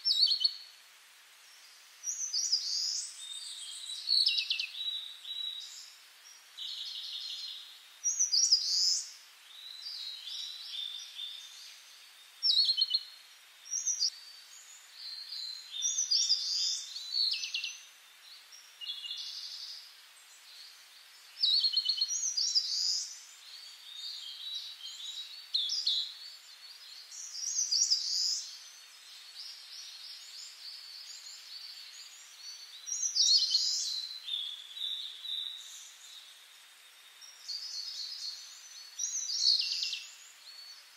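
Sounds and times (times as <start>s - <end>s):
faint outdoor hiss: 0.0s - 40.9s
songbirds chirping and singing: 2.1s - 36.4s.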